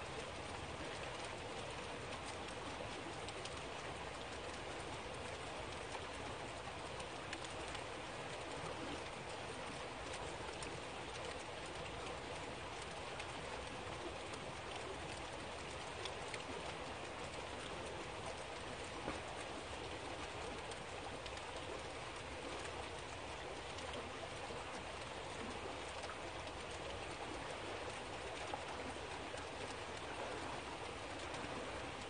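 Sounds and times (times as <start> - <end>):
raindrops striking surfaces: 0.0 - 32.0
steady rain falling: 0.0 - 32.0.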